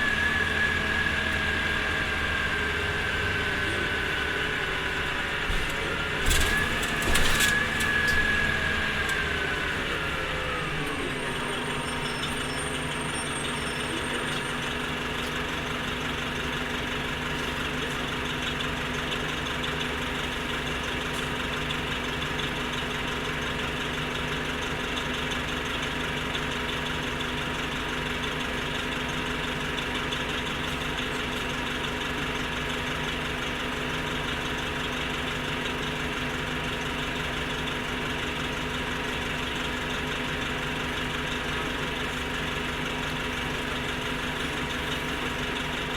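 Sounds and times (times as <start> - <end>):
bus drivetrain whine: 0.0 - 45.9
bus engine idling: 0.0 - 45.9.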